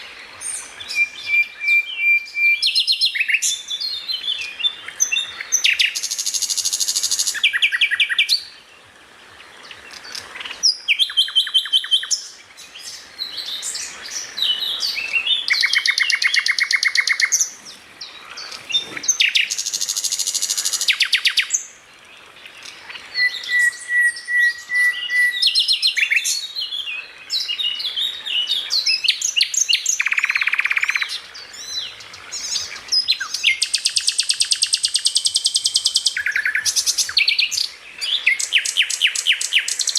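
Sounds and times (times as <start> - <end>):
songbird song with trills: 0.0 - 39.9.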